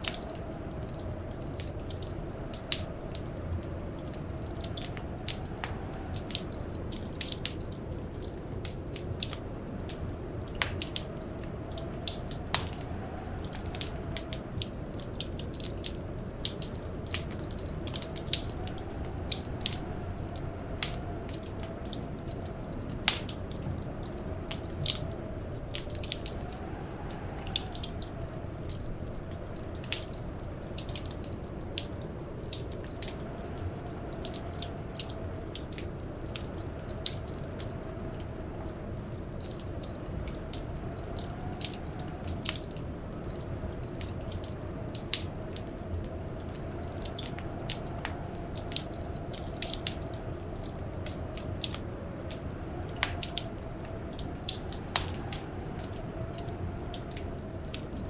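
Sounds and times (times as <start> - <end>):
faint howl of blizzard wind: 0.0 - 58.0
wood fire crackling: 0.0 - 58.0.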